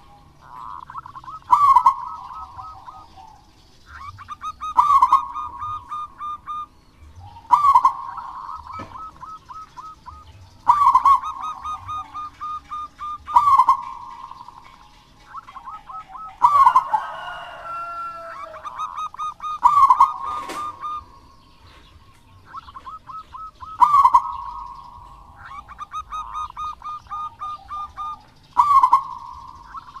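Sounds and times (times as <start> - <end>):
bird call: 0.0 - 30.0
dove cooing: 0.0 - 30.0.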